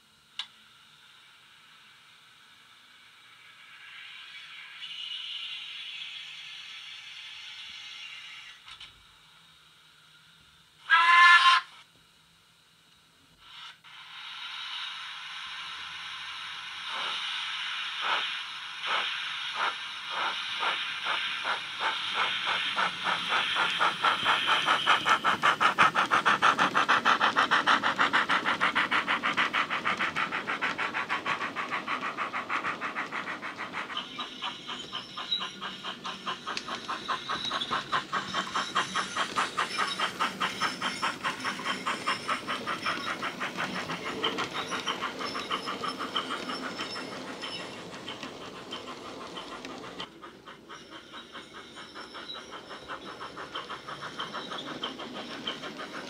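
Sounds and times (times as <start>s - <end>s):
steam locomotive exhaust chuffs: 0.0s - 11.8s, 13.2s - 56.0s
steam hiss from small speaker: 0.0s - 11.9s, 12.7s - 56.0s.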